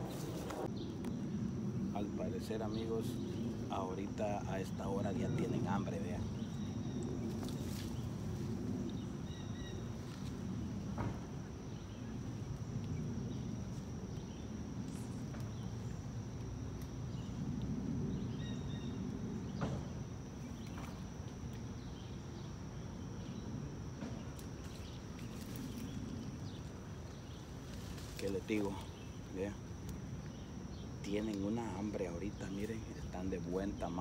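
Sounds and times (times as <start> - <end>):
steady high-pitched buzz: 0.0 - 34.0.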